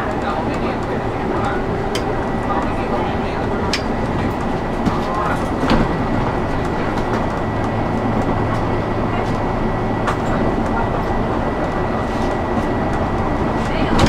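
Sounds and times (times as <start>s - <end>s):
bus engine hum and road rumble: 0.0s - 14.0s.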